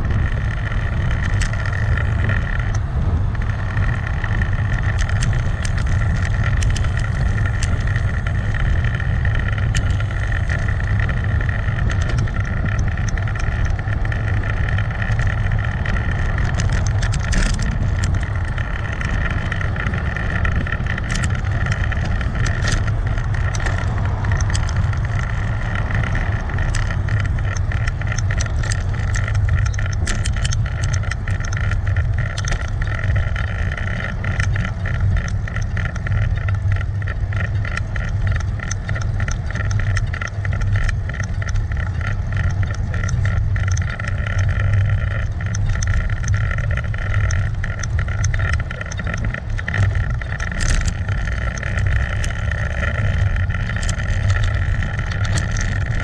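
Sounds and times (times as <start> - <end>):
bicycle road noise: 0.0 - 56.0
rapid clicks and rattles: 0.0 - 56.0
wind rumble: 0.0 - 56.0.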